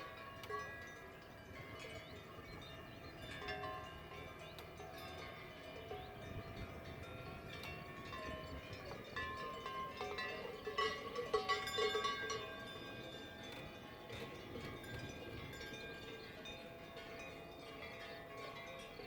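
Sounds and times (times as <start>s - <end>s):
cowbells ringing: 0.0s - 19.0s.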